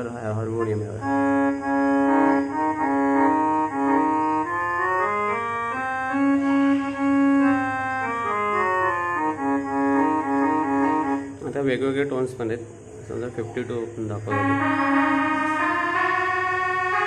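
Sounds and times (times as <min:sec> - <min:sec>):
keyboard harmonium melody: 0:00.0 - 0:11.6, 0:14.2 - 0:17.0.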